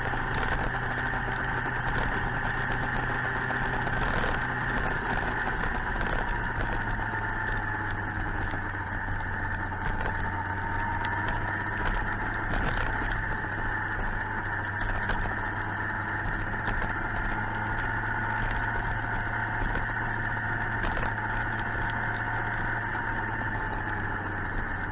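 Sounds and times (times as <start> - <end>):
motorcycle engine humming: 0.0 - 24.9
small irregular ticks: 0.0 - 24.9.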